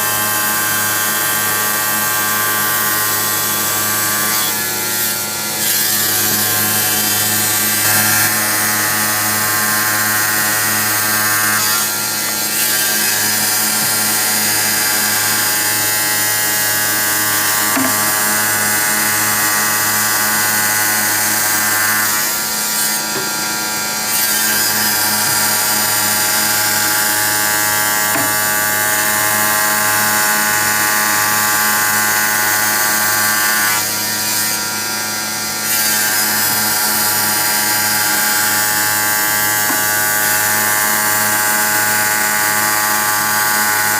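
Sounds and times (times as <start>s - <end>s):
tile cutting machine whining: 0.0s - 43.9s.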